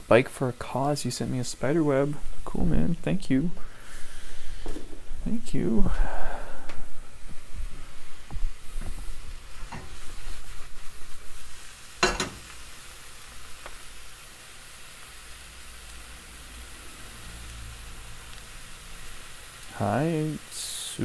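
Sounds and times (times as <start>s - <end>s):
mushrooms sizzling in a pan: 0.0s - 21.0s.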